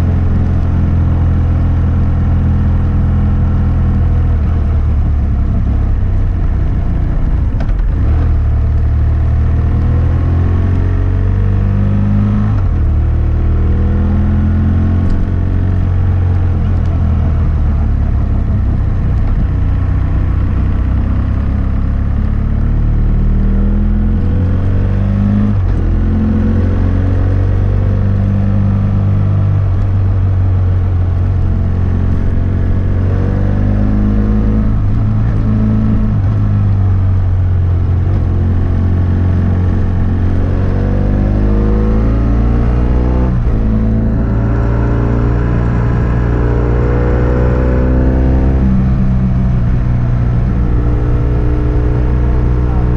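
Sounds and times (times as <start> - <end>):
motorcycle engine revving: 7.0 - 52.9.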